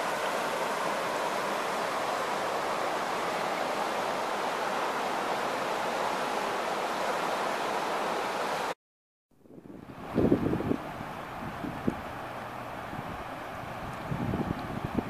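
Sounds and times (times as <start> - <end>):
fast-flowing river water: 0.0 - 8.8, 9.9 - 15.0.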